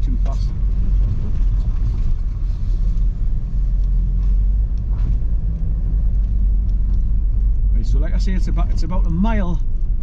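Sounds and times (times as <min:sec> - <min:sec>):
car driving on gravel: 0:00.0 - 0:10.0.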